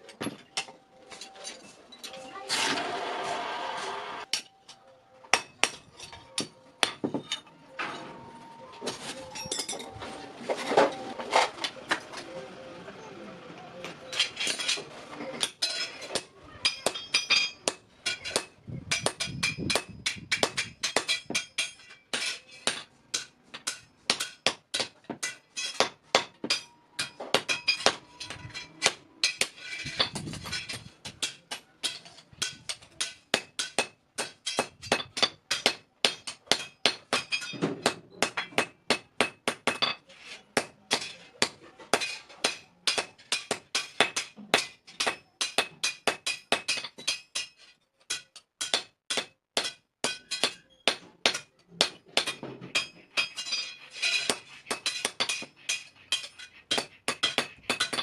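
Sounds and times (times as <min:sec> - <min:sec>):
hammer striking steel: 0:04.3 - 0:08.2, 0:15.4 - 0:58.0.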